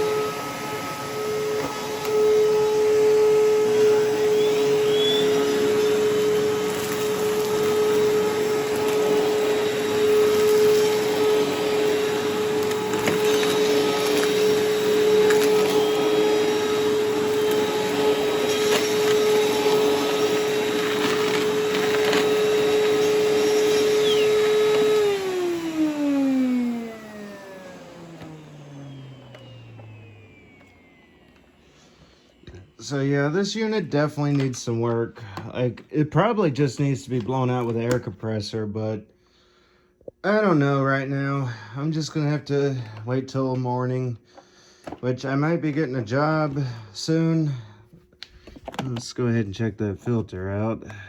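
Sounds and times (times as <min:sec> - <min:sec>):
vacuum cleaner motor whine: 0:00.0 - 0:38.7, 0:40.3 - 0:49.4.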